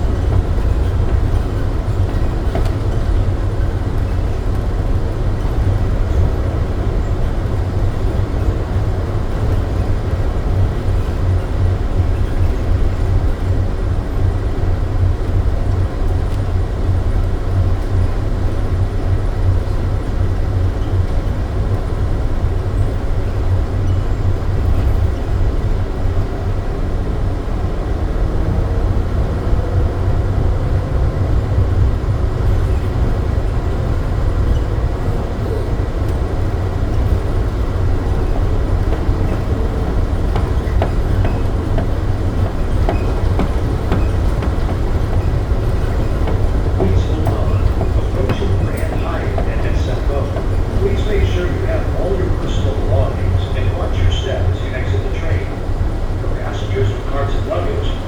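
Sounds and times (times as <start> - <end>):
train rumbling along guideway: 0.0 - 58.0.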